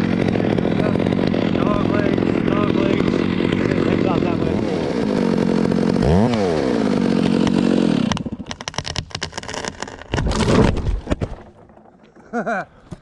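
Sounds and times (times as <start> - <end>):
chainsaw engine running: 0.0 - 10.7.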